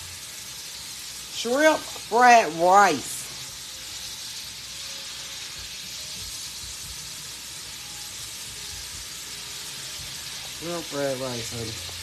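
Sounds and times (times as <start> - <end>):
shrimp sizzling in a skillet: 0.0 - 12.0.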